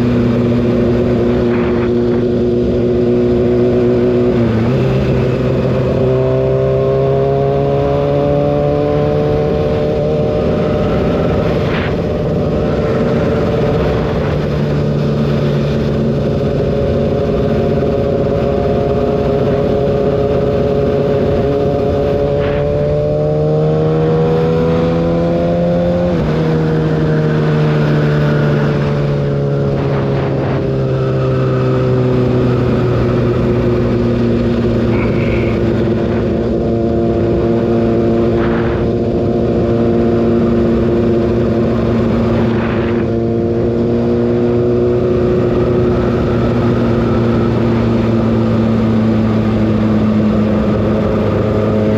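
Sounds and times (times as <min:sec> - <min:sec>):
motorcycle engine revving: 0:00.0 - 0:51.9
wind rush: 0:00.0 - 0:51.9.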